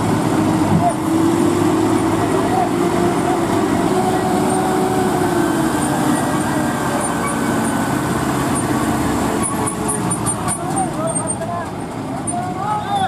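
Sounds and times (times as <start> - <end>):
diesel truck engine running hard: 0.0 - 13.0.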